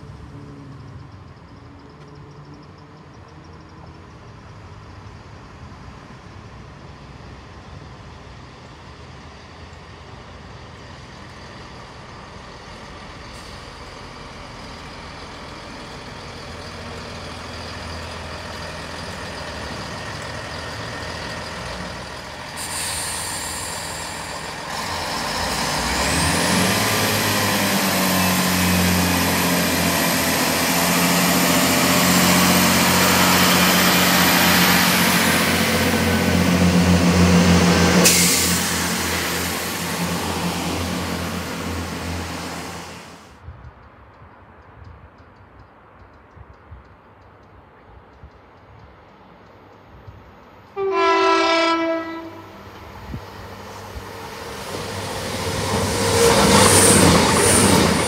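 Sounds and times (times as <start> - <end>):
diesel train engine and wheels: 0.0 - 58.0.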